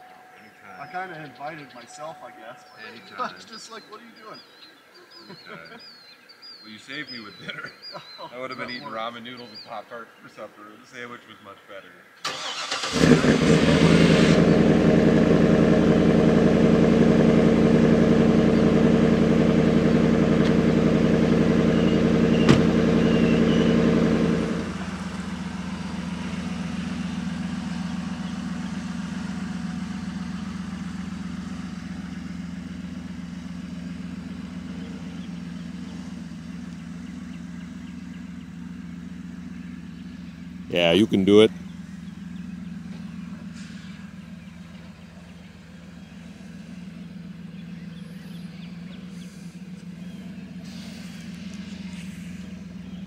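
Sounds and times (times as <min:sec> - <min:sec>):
vehicle engine idling: 0:00.0 - 0:07.4, 0:12.3 - 0:53.0.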